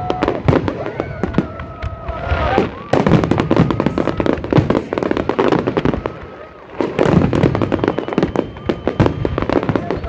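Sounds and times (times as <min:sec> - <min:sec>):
fireworks crackling bangs: 0:00.0 - 0:10.0.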